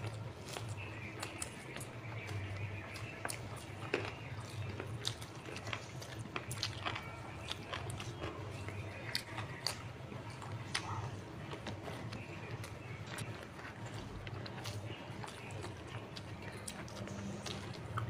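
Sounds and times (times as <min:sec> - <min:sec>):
chewing and lip smacks: 0:00.0 - 0:18.0
low steady hum: 0:00.0 - 0:18.0.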